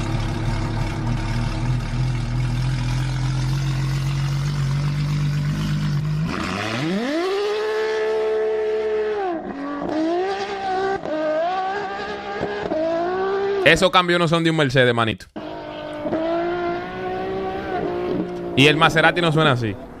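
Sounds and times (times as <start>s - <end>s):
sports car engine revving: 0.0s - 13.6s, 15.4s - 20.0s.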